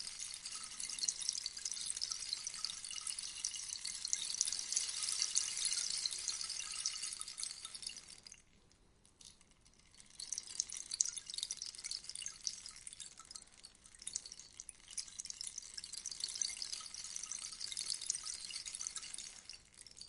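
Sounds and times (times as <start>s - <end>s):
rainstick pellets pattering: 0.0s - 8.6s, 9.2s - 20.0s.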